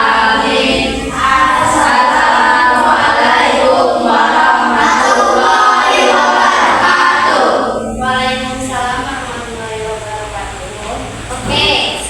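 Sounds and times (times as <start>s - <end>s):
group singing unaccompanied: 0.0s - 9.7s.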